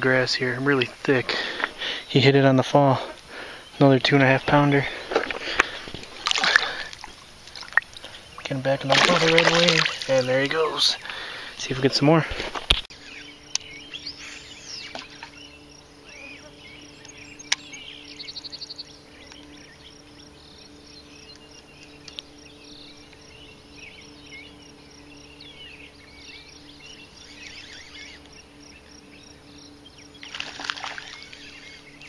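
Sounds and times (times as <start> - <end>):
birds chirping and calling: 0.0 - 32.0
steady low hum: 0.0 - 32.0.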